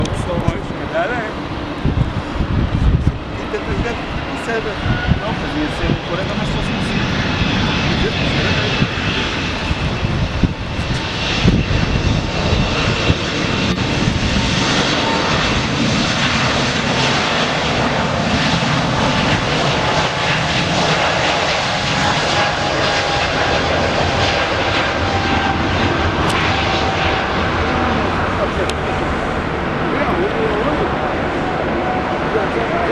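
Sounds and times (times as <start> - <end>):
jet engines roaring on takeoff: 0.0 - 32.9.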